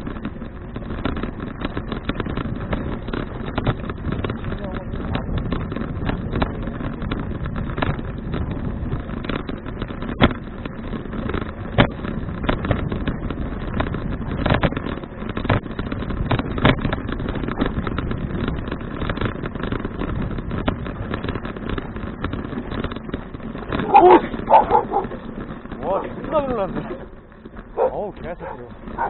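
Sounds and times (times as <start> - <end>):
road rumble: 0.0 - 29.0
wind noise: 0.0 - 29.0.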